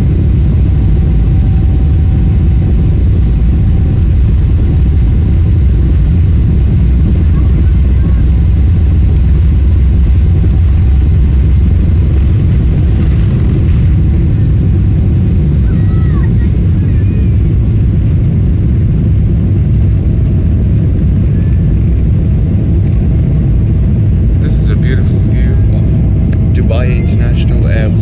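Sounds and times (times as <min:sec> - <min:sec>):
jet engines roaring in cabin: 0:00.0 - 0:28.0.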